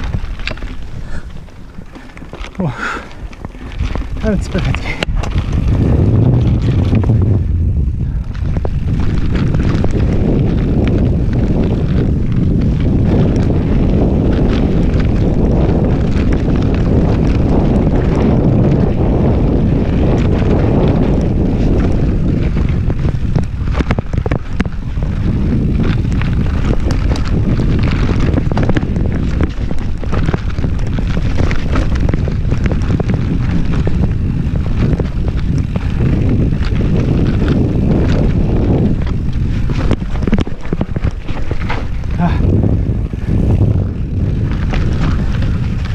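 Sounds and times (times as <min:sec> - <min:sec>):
bike clattering on rough trail: 0:00.0 - 0:45.9
wind buffeting microphone: 0:00.0 - 0:45.9.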